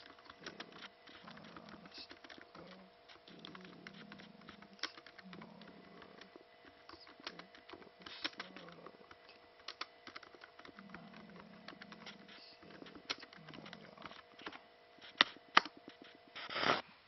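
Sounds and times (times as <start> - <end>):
laptop keyboard typing: 0.0 - 16.4.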